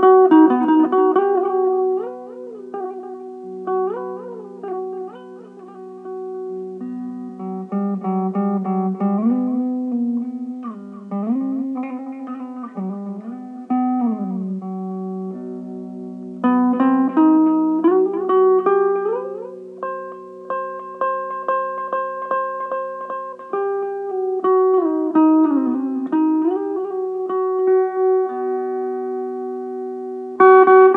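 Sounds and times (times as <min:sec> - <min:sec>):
electric mandolin playing: 0:00.0 - 0:30.9.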